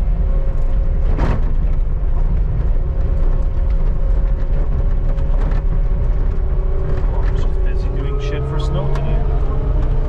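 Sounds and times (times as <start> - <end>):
skid steer engine droning: 0.0 - 10.0.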